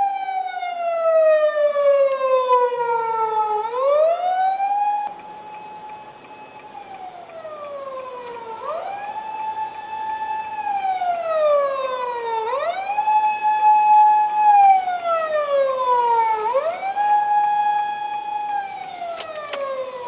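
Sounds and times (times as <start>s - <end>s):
electronic emergency siren wailing: 0.0s - 20.0s.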